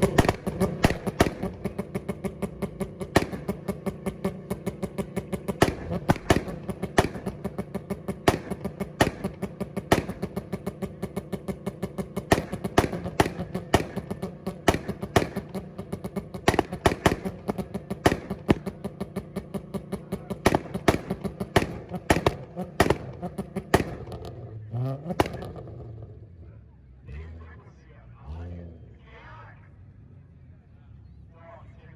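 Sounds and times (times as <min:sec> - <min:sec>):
exhaust bangs and pops: 0:00.0 - 0:26.2
car engine on rev limiter: 0:00.0 - 0:31.3.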